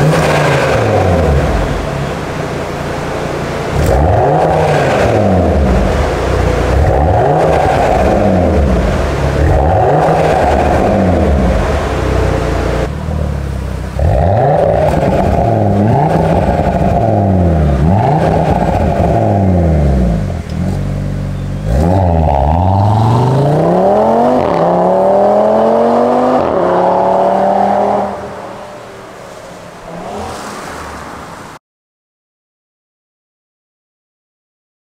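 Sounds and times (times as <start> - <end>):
car accelerating hard: 0.0 - 31.6
car engine revving: 0.0 - 31.6.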